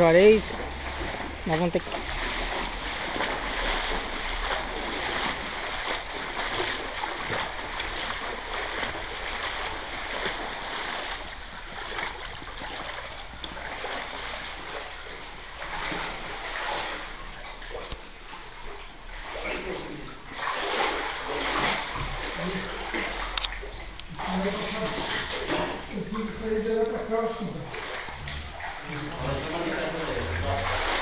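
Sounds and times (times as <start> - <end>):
floodwater splashing and sloshing: 0.0 - 31.0.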